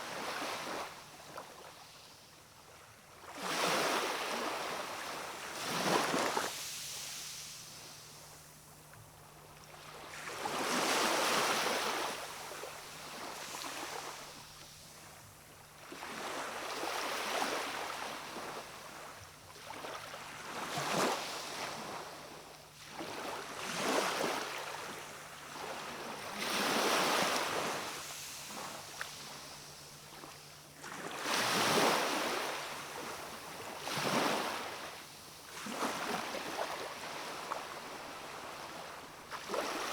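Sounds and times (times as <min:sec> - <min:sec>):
small waves breaking on shore: 0:02.6 - 0:08.4, 0:09.4 - 0:39.9.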